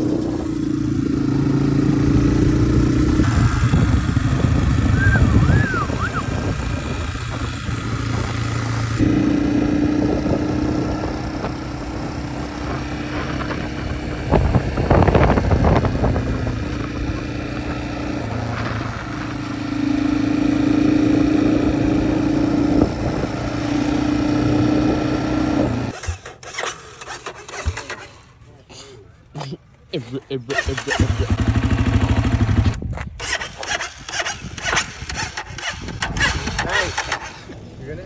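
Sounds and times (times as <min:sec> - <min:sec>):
dirt bike engine running: 0:00.0 - 0:28.3, 0:30.5 - 0:37.6.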